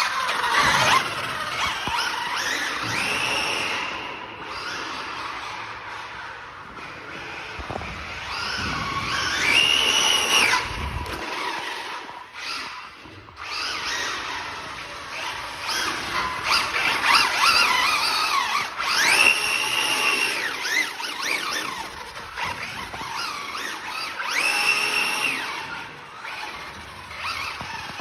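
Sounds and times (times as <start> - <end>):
electric rc car motor whining: 0.0 - 28.0.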